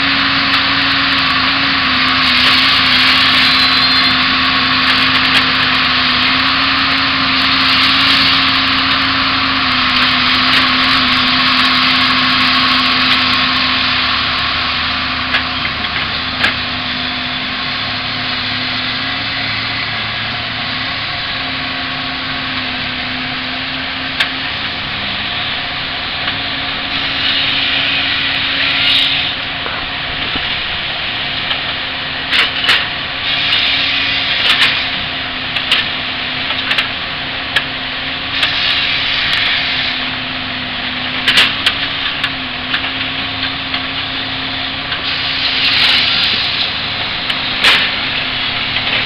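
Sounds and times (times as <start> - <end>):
diesel engine running: 0.0 - 49.0
loud rushing machine noise: 0.0 - 49.0.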